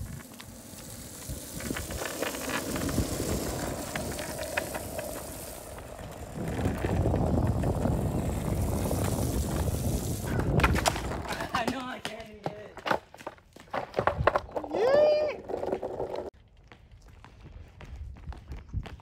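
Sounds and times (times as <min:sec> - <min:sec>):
longboard wheels rolling on asphalt: 0:00.0 - 0:12.2, 0:12.8 - 0:16.8.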